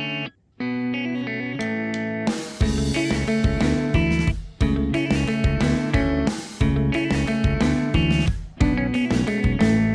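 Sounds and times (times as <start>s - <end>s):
guitar music with steady beat: 0.0s - 9.9s.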